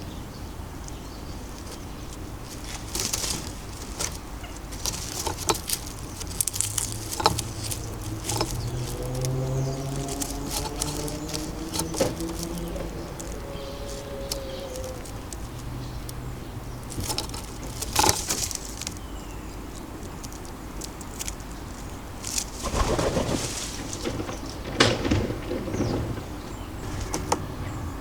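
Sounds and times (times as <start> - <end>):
sharp rustles and knocks: 0.8 - 28.0
wood pigeon cooing: 1.4 - 28.0.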